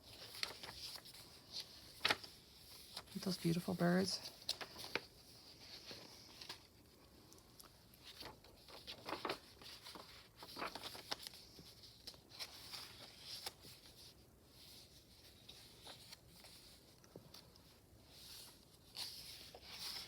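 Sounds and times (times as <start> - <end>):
paper pages rustling: 0.0 - 20.0.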